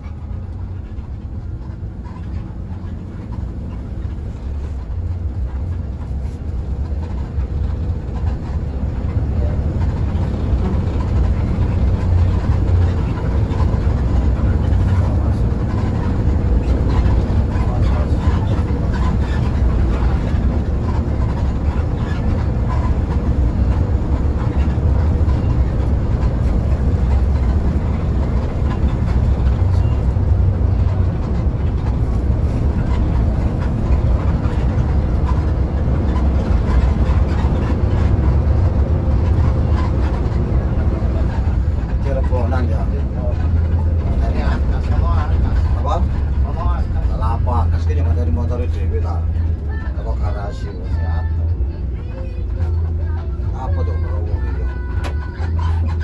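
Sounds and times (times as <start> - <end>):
bus engine and road drone: 0.0 - 56.0.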